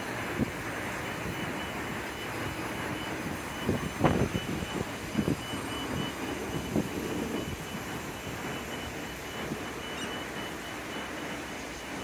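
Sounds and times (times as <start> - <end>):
electric train running rumble: 0.0 - 12.0
train wheels clunking on track: 0.0 - 12.0.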